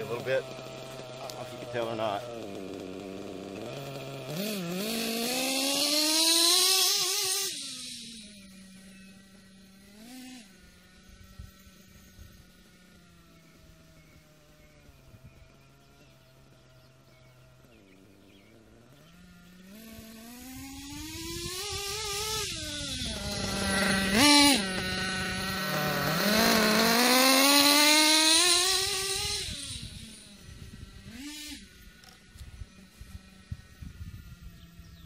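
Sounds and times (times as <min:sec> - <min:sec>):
model engine revving: 0:00.0 - 0:35.0.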